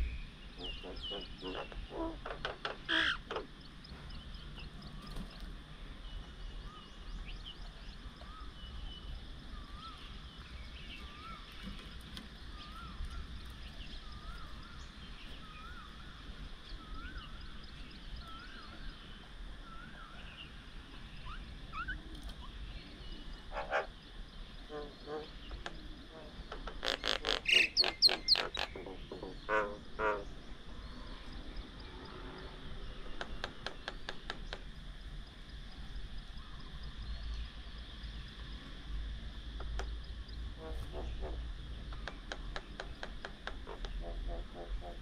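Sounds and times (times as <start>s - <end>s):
birds chirping: 0.0s - 38.4s, 39.6s - 45.0s.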